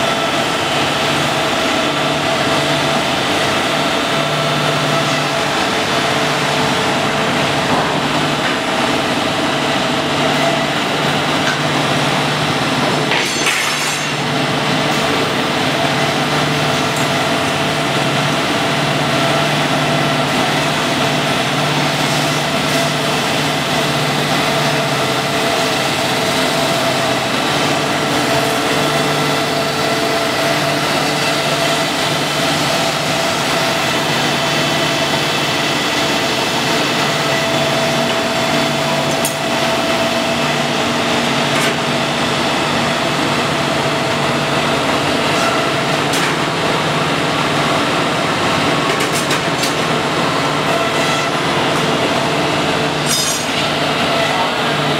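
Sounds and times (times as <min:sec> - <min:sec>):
belt grinding machine droning: 0:00.0 - 0:13.1, 0:14.0 - 0:54.9.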